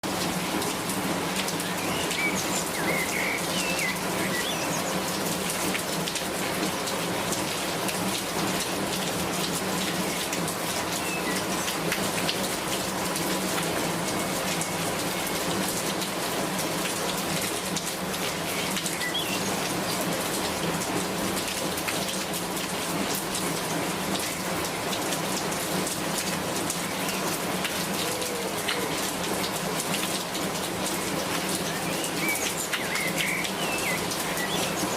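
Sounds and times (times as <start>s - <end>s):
raindrops ticking: 0.0s - 34.9s
rainfall hiss: 0.0s - 34.9s.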